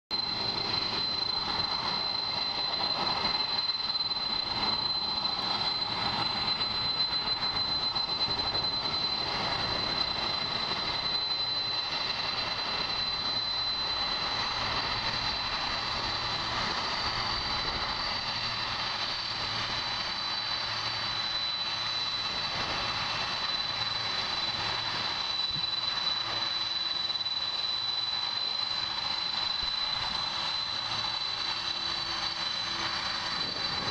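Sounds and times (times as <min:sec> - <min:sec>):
jet engines running: 0:00.1 - 0:33.9.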